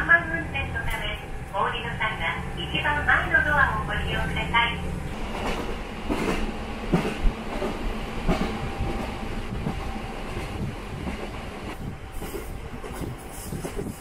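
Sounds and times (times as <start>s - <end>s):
train engine and wheels rumbling: 0.0s - 14.0s.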